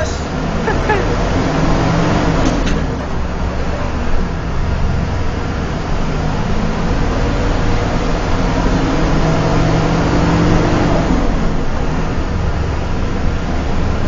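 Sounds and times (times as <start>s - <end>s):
diesel engine running: 0.0s - 14.0s
road and tyre noise: 0.0s - 14.0s.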